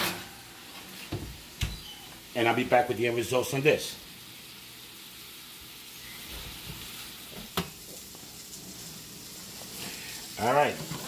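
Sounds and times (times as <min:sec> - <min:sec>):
leeks sizzling in a skillet: 0:00.0 - 0:11.0.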